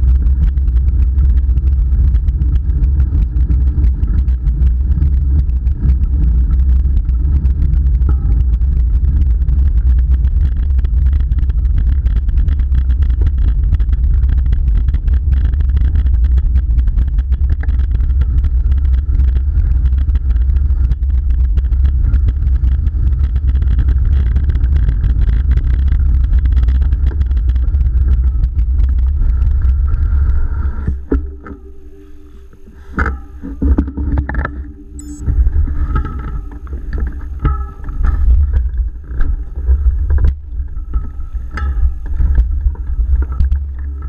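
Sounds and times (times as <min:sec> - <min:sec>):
wind rumble on microphone: 0:00.0 - 0:44.0.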